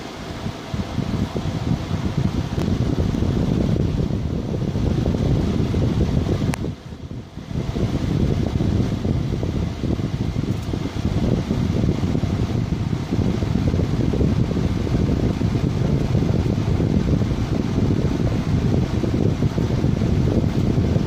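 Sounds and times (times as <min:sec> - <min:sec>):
floor fan air rushing: 0:00.0 - 0:21.0.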